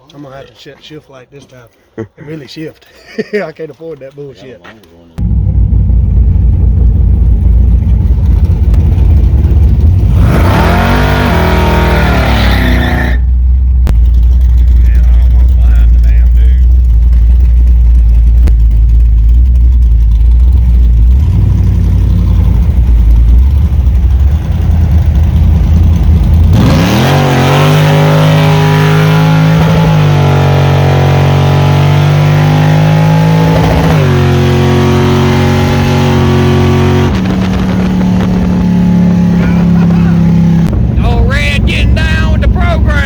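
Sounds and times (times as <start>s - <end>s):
pickup truck engine revving: 5.2s - 43.0s.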